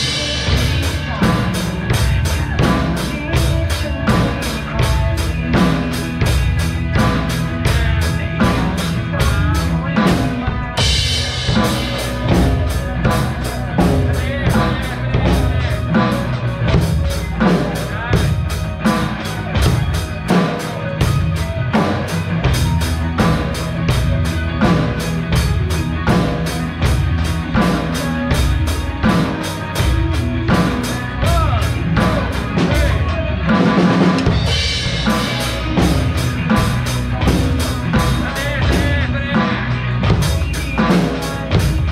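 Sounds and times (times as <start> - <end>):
backing track music: 0.0 - 41.9
drum kit rock beat: 0.0 - 41.9.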